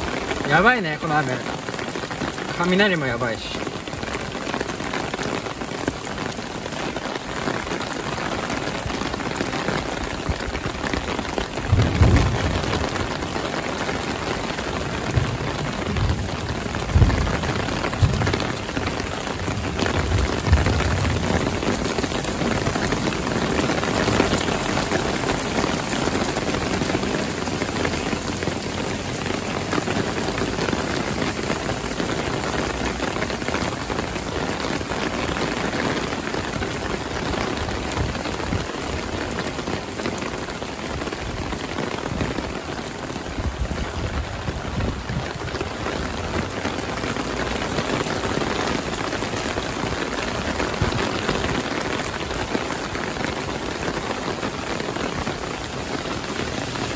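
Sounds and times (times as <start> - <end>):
heavy rain on pavement: 0.0 - 56.9.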